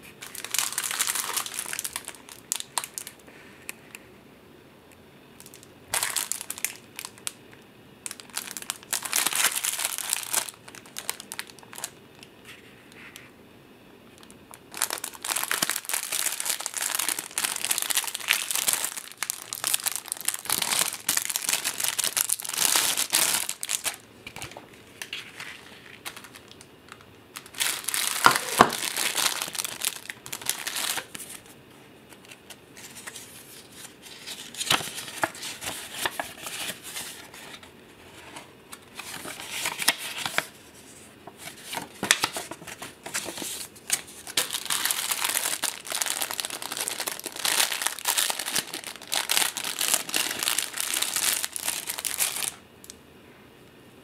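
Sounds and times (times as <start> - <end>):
plastic packaging crinkling: 0.2 - 3.8, 5.4 - 7.4, 8.0 - 12.3, 14.2 - 52.6.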